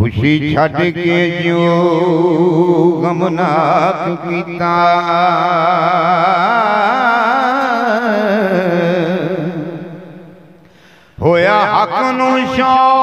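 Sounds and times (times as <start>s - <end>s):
man singing unaccompanied: 0.0s - 10.4s, 11.2s - 13.0s.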